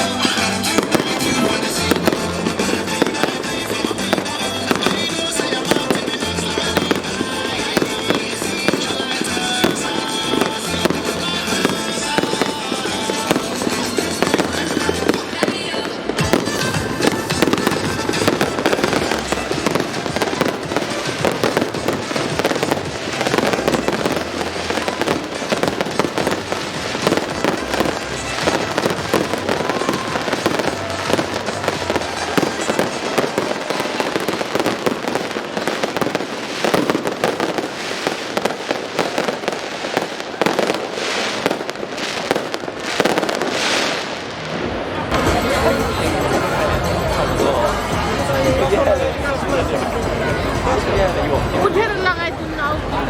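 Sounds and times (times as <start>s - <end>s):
fireworks bursting and crackling: 0.0s - 53.0s
music playing: 0.0s - 53.0s.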